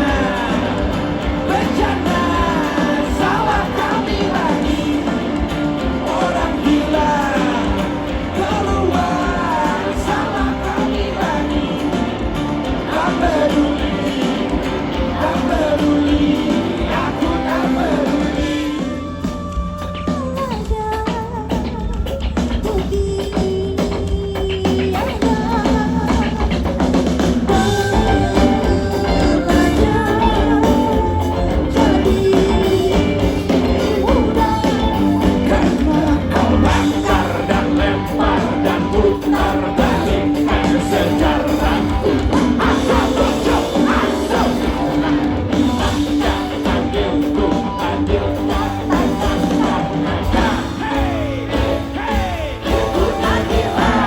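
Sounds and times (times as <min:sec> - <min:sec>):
person singing: 0:00.0 - 0:26.8, 0:27.5 - 0:54.0
bass guitar: 0:00.0 - 0:54.0
drum kit: 0:00.0 - 0:54.0
guitar: 0:00.0 - 0:54.0
live rock band playing: 0:00.0 - 0:54.0.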